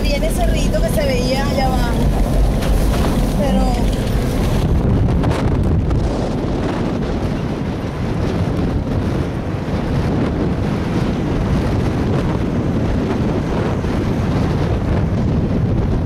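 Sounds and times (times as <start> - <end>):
vehicle running noise: 0.0 - 16.0
wind buffeting microphone: 0.0 - 16.0.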